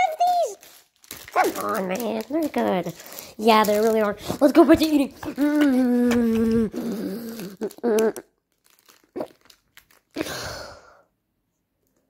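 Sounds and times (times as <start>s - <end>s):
plastic wrappers crinkling: 0.0s - 10.6s.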